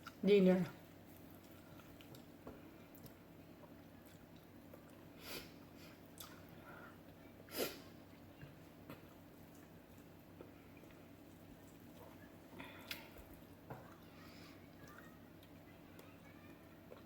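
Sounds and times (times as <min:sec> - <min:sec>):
person chewing food: 0:01.0 - 0:07.2, 0:08.0 - 0:16.1.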